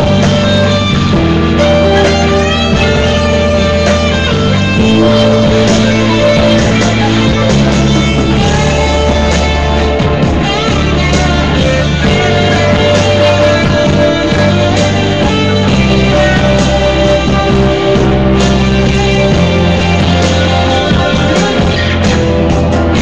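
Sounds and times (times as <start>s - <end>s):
held low notes: 0.0s - 23.0s
rock guitar playing: 0.0s - 23.0s.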